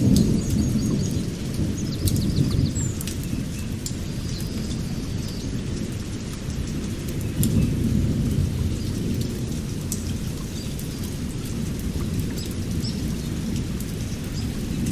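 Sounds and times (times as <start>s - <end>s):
rolling thunder: 0.0s - 14.9s
sharp drips: 0.0s - 14.9s
steady rain: 0.0s - 14.9s.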